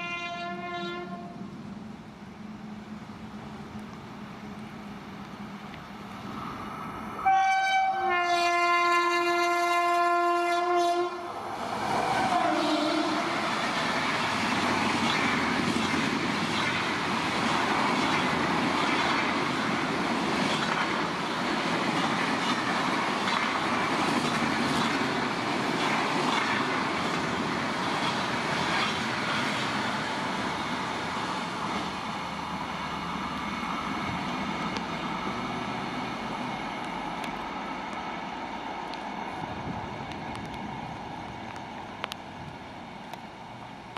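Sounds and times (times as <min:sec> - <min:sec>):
train passing at high speed: 0:00.0 - 0:43.9.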